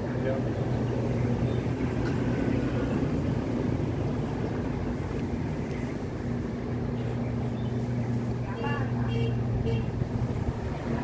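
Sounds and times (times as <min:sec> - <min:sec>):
low mechanical hum: 0:00.0 - 0:11.0
rumbling background noise: 0:00.0 - 0:11.0.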